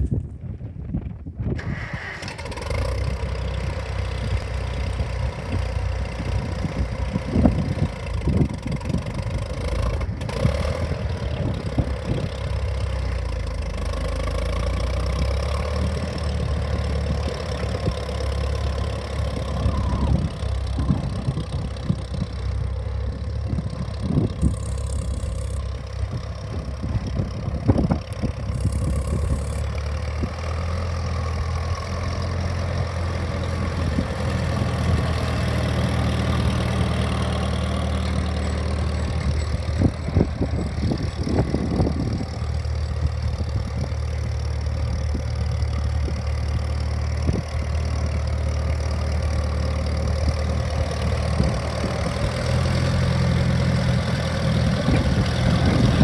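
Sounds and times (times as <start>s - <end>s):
tractor engine driving past: 0.0s - 56.0s.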